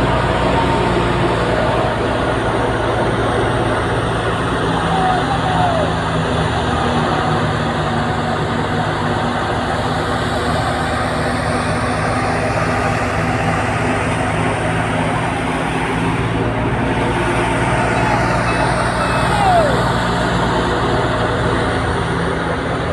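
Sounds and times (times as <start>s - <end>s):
thresher machine noise: 0.0s - 22.9s
tractor diesel engine humming: 0.0s - 22.9s.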